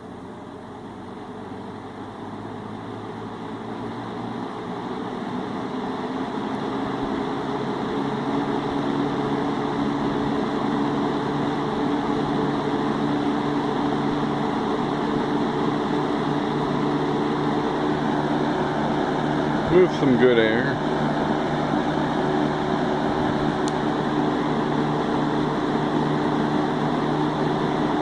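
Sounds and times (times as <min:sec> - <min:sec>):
fan air rushing: 0:00.0 - 0:28.0
low motor hum: 0:00.0 - 0:28.0.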